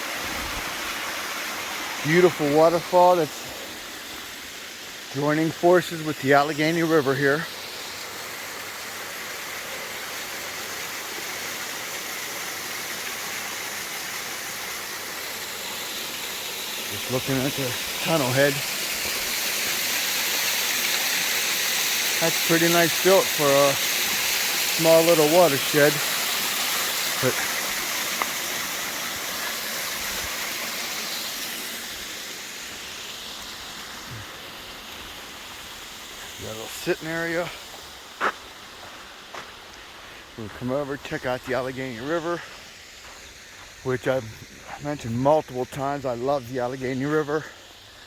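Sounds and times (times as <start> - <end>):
small waterfall splashing: 0.0 - 48.0.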